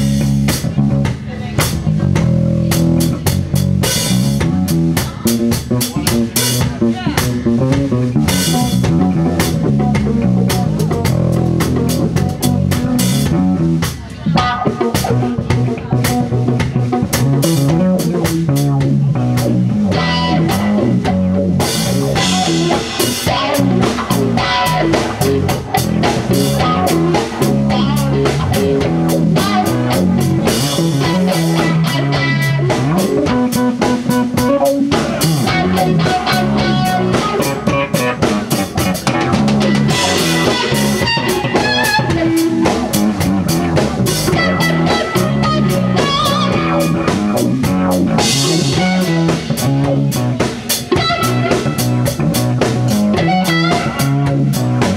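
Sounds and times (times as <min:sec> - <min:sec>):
bass guitar: 0:00.0 - 0:54.9
drum kit: 0:00.0 - 0:54.9
electric guitar lead lines: 0:00.0 - 0:54.9.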